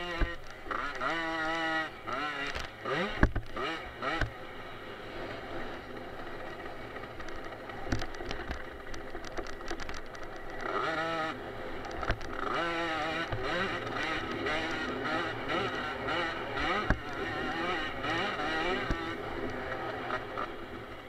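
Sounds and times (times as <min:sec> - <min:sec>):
two-stroke motorbike engine revving: 0:00.0 - 0:21.0.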